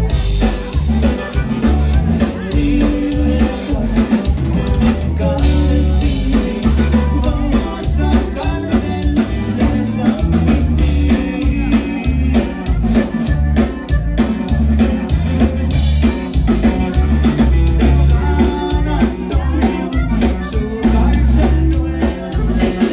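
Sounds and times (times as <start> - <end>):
band playing dance music: 0.0 - 22.9
bass line: 0.0 - 22.9
drum kit beat: 0.0 - 22.9.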